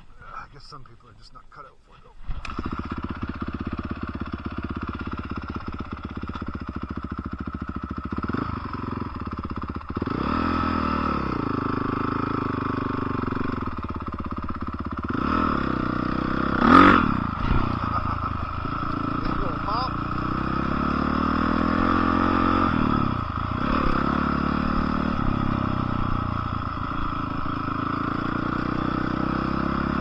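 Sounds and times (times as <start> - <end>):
dirt bike engine revving: 2.2 - 30.0.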